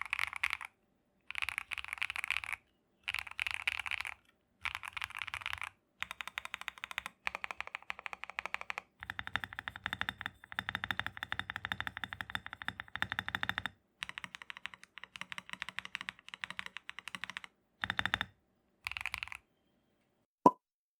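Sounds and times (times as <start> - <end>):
mechanical keyboard typing: 0.0 - 19.4.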